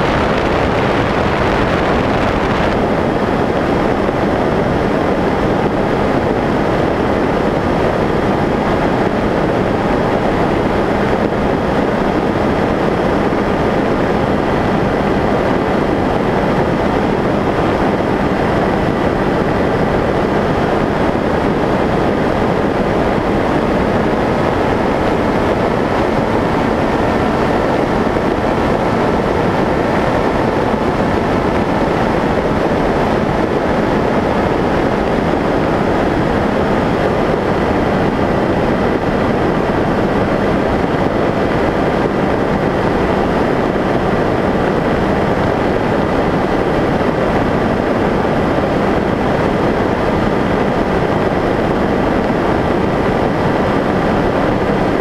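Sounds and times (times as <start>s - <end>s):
electric motor and propeller whine: 0.0s - 47.9s
wind rushing over plane: 0.0s - 55.0s.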